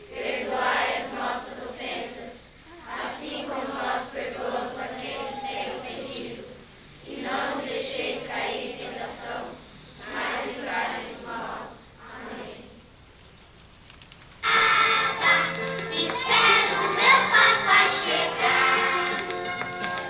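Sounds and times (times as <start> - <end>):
children reciting a prayer in unison: 0.0 - 12.9, 14.5 - 19.1.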